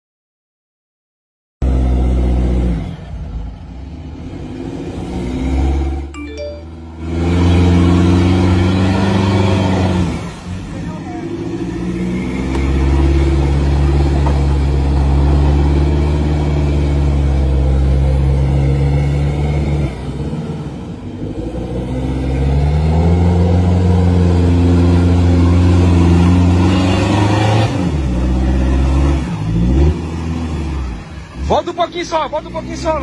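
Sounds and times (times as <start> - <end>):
engine revving under heavy load: 1.6 - 6.1, 6.8 - 33.0.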